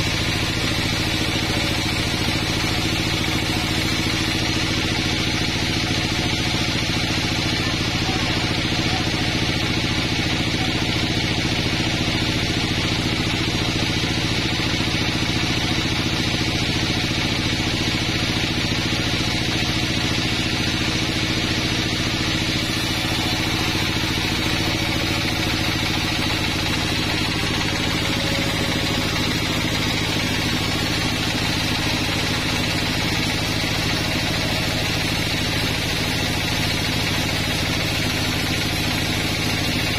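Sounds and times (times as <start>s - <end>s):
band saw cutting wood: 0.0s - 12.0s, 19.8s - 39.9s.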